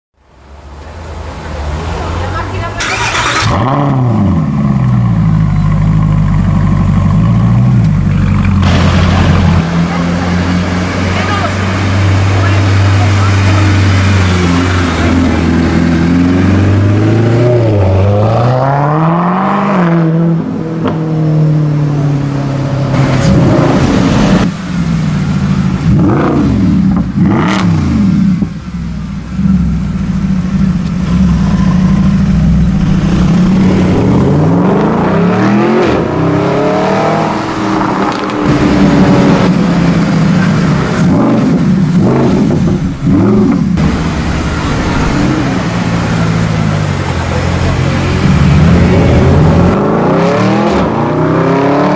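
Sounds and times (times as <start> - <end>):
car engine revving: 1.7 - 51.9.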